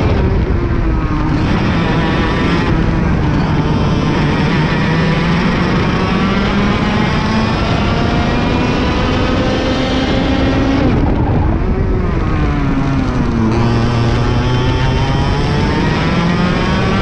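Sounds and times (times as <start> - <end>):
kart engine racing: 0.0 - 17.0.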